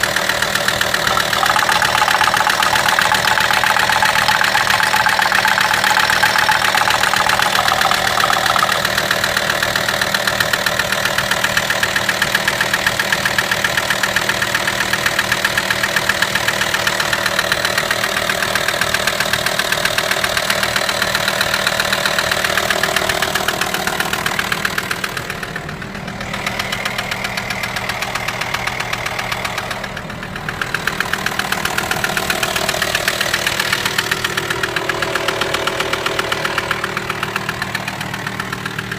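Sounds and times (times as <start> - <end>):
diesel engine knocking rattle: 0.0 - 38.9.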